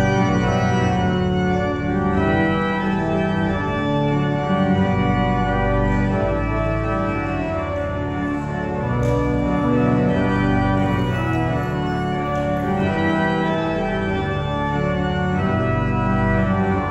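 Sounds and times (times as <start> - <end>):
organ playing hymn chords: 0.0 - 16.9.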